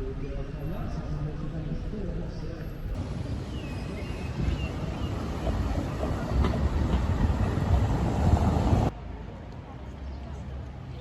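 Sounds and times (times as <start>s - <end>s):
rail vehicle rumbling on track: 0.0s - 9.0s.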